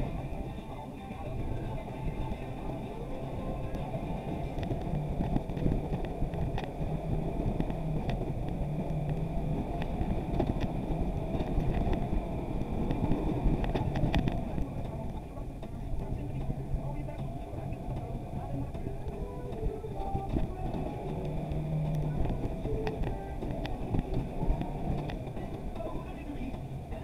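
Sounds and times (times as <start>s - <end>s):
buggy engine running: 0.0s - 27.0s
road noise: 0.0s - 27.0s
sharp clicks and knocks: 3.6s - 26.7s.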